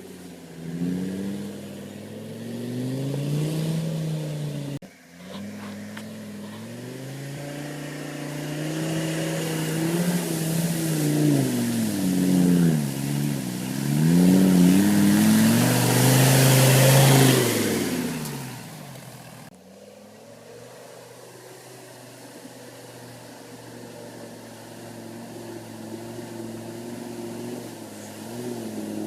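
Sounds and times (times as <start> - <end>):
diesel engine revving hard: 0.0 - 19.6, 20.6 - 29.0.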